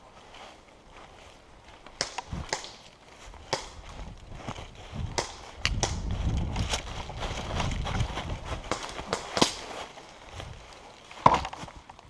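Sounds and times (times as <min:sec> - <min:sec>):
footsteps crunching through dry leaves: 0:00.0 - 0:11.9
twigs snapping and crackling: 0:01.8 - 0:12.0.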